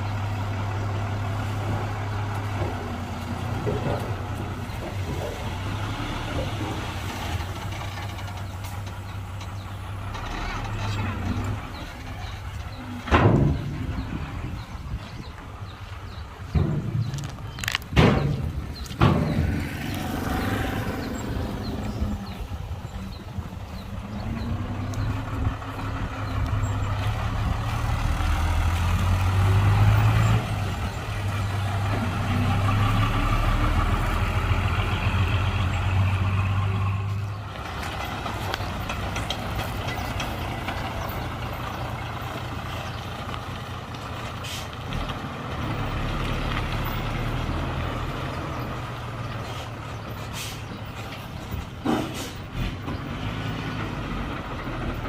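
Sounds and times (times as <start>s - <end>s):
diesel construction machinery engine: 0.0s - 55.0s.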